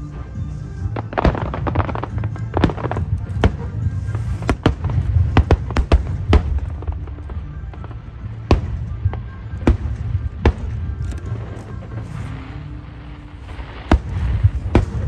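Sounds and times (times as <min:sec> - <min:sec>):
fireworks bangs and crackles: 0:00.0 - 0:15.0
music with low bass: 0:00.0 - 0:15.0.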